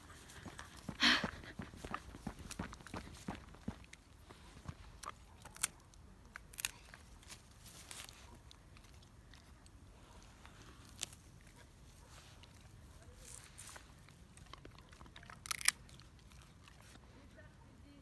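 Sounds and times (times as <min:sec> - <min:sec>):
dog chewing and crunching: 0:02.1 - 0:17.1.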